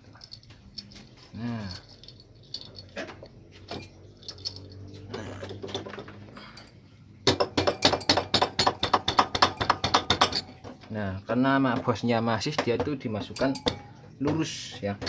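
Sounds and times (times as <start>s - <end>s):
metal engine parts clinking: 0.0s - 11.0s, 11.6s - 15.0s.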